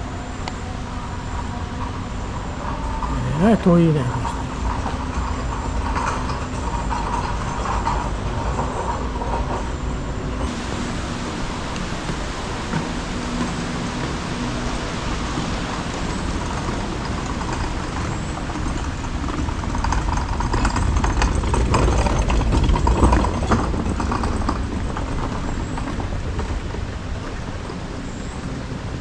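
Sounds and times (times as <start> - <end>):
tram rumble and road noise: 0.0 - 29.0.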